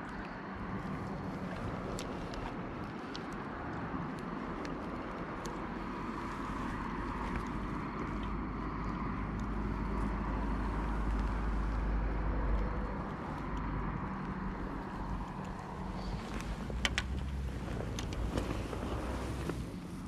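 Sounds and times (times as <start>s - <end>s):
low rumble with engine hum: 0.0s - 20.0s.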